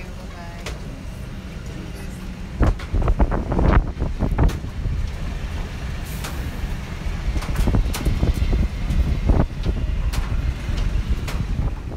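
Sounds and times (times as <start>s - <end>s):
airplane cabin rumble: 0.0s - 11.9s.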